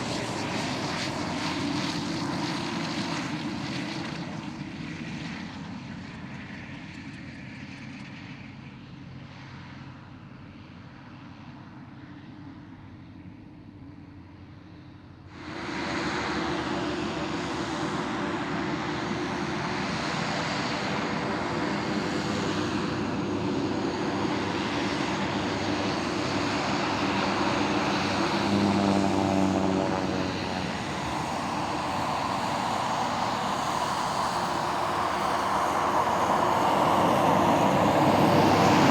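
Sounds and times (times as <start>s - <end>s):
propeller plane engine: 0.0s - 38.9s.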